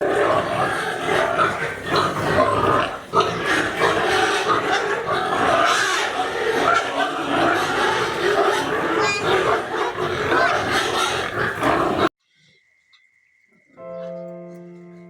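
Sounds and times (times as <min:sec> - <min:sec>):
piglets squealing and grunting: 0:00.0 - 0:12.1.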